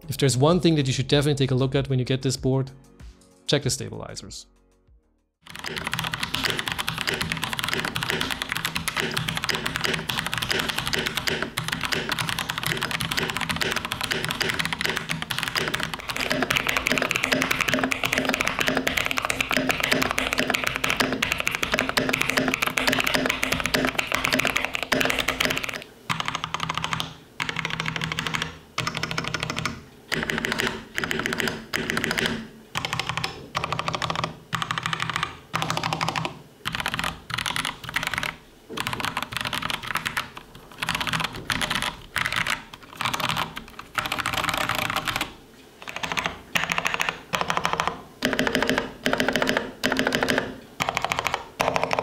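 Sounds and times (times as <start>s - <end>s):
mechanical keyboard typing: 5.5s - 52.0s.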